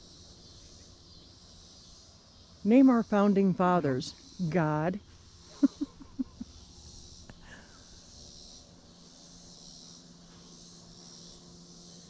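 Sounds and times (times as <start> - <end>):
faint low hum: 0.0 - 12.0
insects chorus: 0.0 - 12.0.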